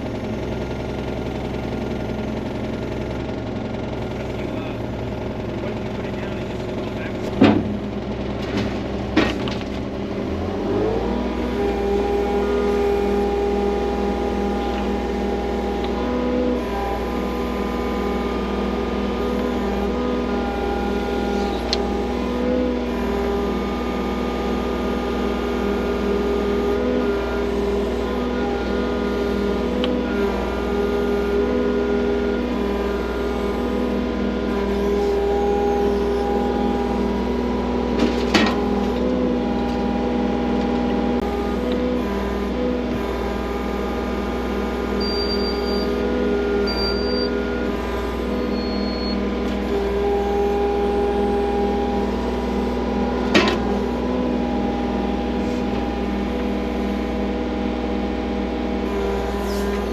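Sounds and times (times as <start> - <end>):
skid loader engine running: 0.0 - 59.9.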